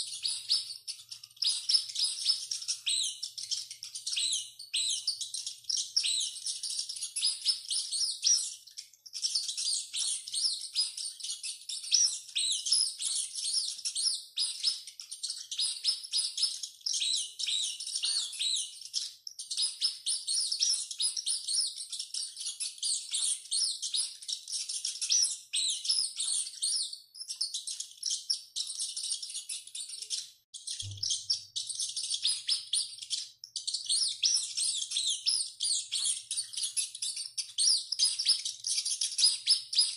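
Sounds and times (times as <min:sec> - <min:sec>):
rats squeaking: 0:00.0 - 0:39.9.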